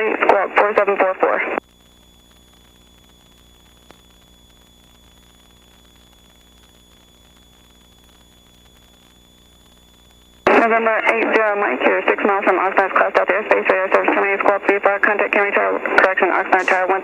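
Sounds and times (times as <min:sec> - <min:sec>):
radio hiss and hum: 0:00.0 - 0:17.0.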